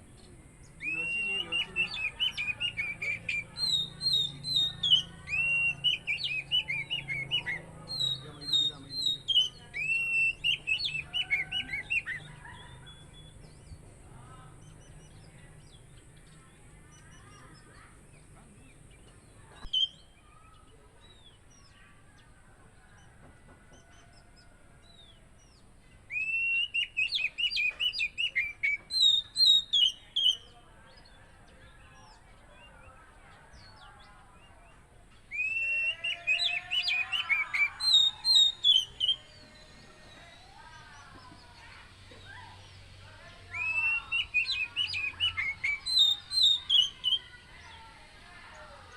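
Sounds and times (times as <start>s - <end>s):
magpie-robin singing: 0.0s - 48.9s
other birds chirping: 0.0s - 48.9s.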